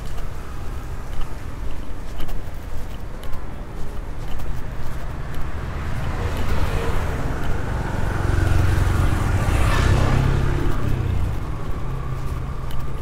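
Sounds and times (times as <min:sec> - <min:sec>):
street traffic: 0:00.0 - 0:13.0
tyre and road noise: 0:00.0 - 0:13.0
vehicle engine rumble: 0:00.0 - 0:13.0.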